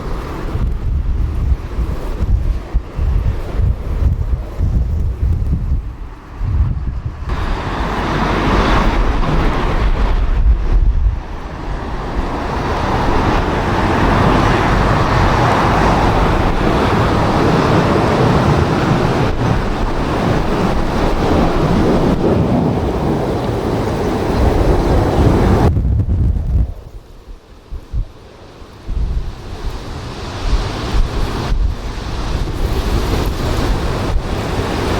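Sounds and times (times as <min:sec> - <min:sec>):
gusty wind buffeting microphone: 0:00.0 - 0:34.9.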